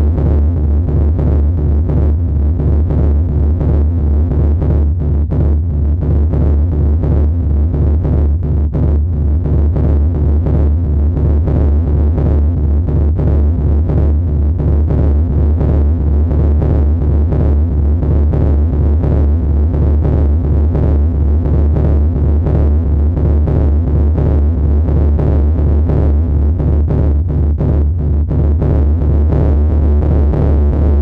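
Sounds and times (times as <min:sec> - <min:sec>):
dense gritty electronic texture: 0:00.0 - 0:31.0
pulsing heavy bass drone: 0:00.0 - 0:31.0.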